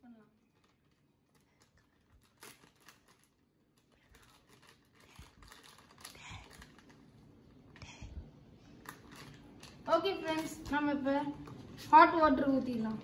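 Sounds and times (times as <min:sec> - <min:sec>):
paper packet crinkling: 0:00.4 - 0:07.4, 0:08.7 - 0:13.0
irregular ticks and rustles: 0:00.4 - 0:08.0, 0:08.8 - 0:12.0.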